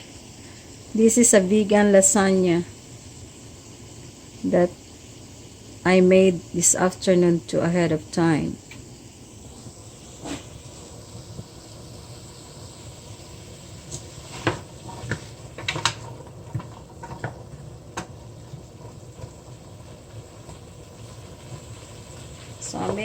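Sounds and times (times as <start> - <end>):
vegetables sauteing in oil: 0.0 - 23.0.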